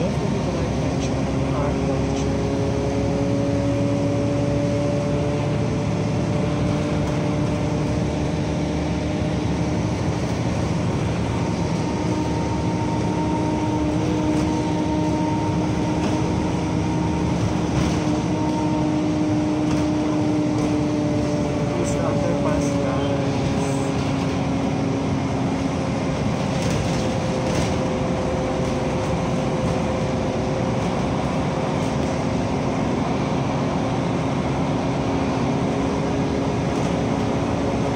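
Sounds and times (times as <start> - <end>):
engine and road noise: 0.0 - 37.9.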